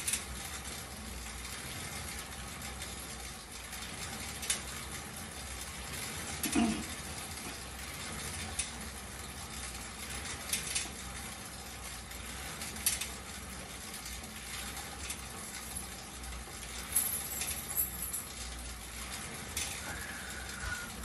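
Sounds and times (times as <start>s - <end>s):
bike drive and pedal clicks: 0.0s - 21.0s
exercise bike fan whoosh: 0.0s - 21.0s.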